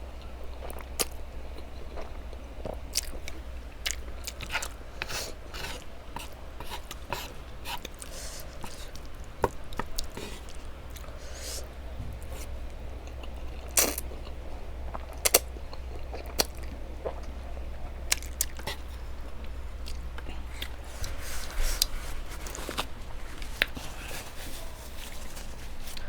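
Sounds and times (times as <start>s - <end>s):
low steady hum: 0.0s - 26.0s
chewing noodles: 0.3s - 26.0s.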